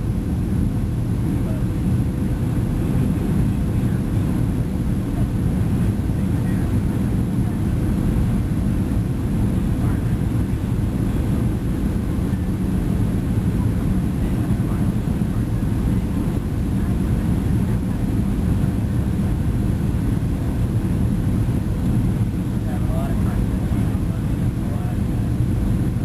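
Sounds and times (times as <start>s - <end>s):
airliner engine and airflow rumble: 0.0s - 26.0s.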